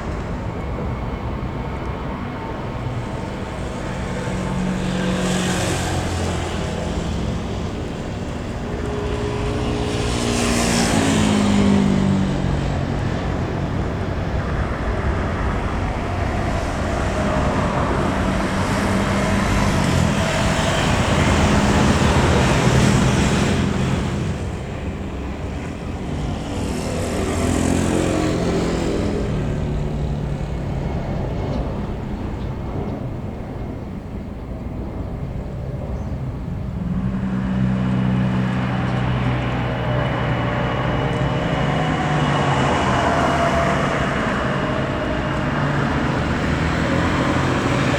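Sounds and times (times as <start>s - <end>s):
road traffic roaring: 0.0s - 47.9s
vehicles passing: 0.0s - 47.9s.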